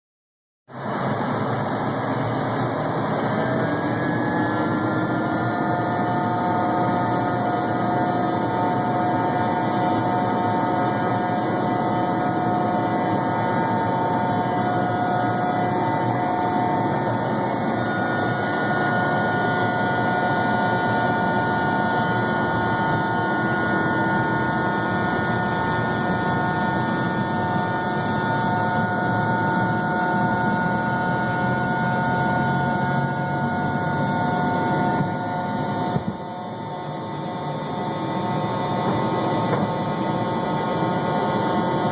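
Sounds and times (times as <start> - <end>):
jet engines roaring: 0.7 - 41.9.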